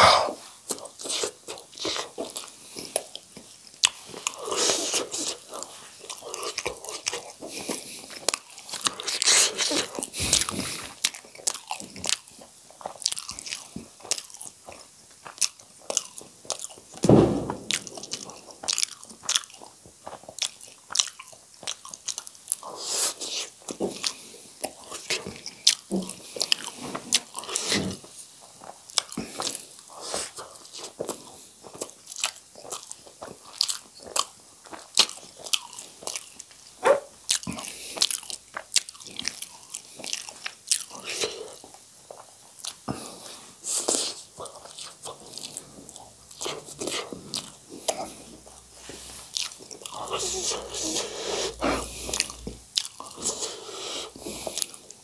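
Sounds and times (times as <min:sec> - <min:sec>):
wet chewing and smacking: 0:00.7 - 0:55.0.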